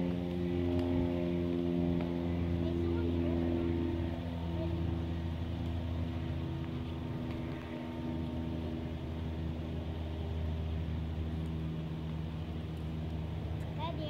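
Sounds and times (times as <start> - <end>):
motor droning hum: 0.0 - 14.0.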